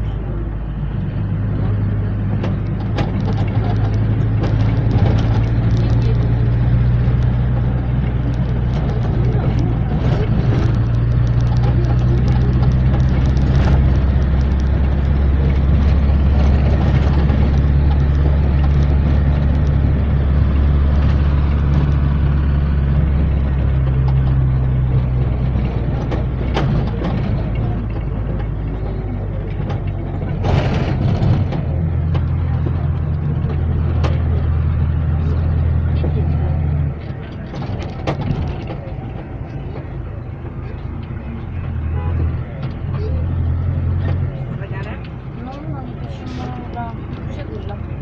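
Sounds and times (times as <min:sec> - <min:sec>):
minibus engine and road noise: 0:00.0 - 0:48.0
sharp knocks and rattles: 0:01.7 - 0:48.0.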